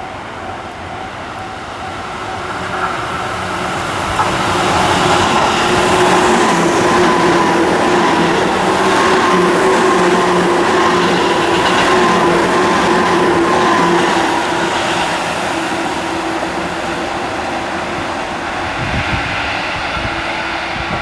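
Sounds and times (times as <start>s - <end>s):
electric train running past: 0.0s - 21.0s
train hum and whine: 0.0s - 21.0s.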